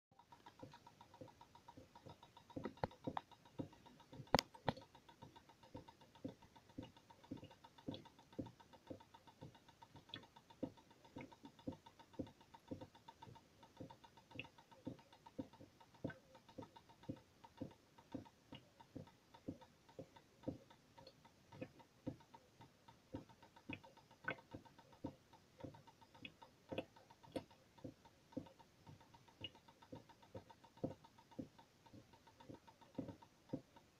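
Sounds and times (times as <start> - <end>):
water drops ticking on metal: 0.2 - 33.9.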